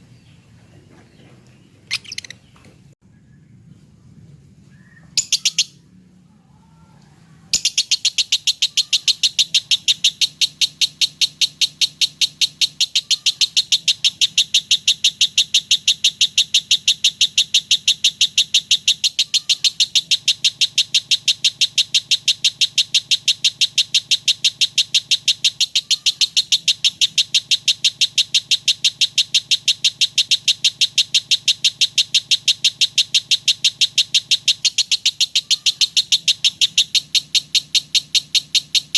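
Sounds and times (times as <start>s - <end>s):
lovebird rapid chattering song: 1.8s - 2.6s, 5.1s - 5.8s, 7.5s - 38.9s.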